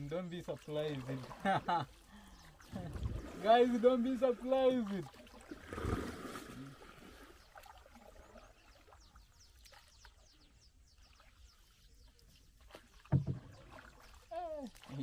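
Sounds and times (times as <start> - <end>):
paddle dipping in water: 0.0 - 15.0
water trickling off paddle: 0.0 - 15.0.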